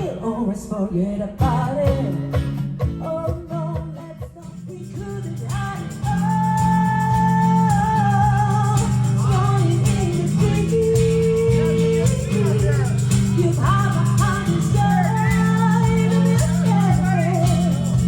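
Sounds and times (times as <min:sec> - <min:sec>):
person singing: 0:00.0 - 0:02.4, 0:03.0 - 0:18.0
strummed acoustic guitar: 0:01.4 - 0:18.0.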